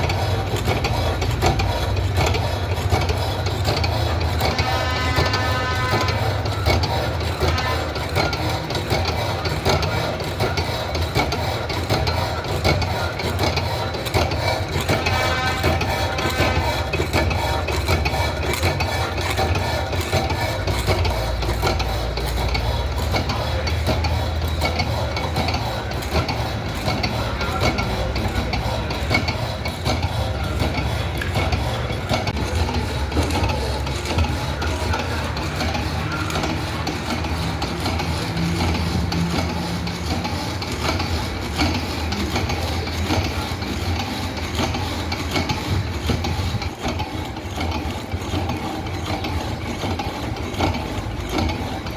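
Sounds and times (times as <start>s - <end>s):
band saw rasping through steel: 0.0s - 51.9s
low motor hum: 0.0s - 51.9s.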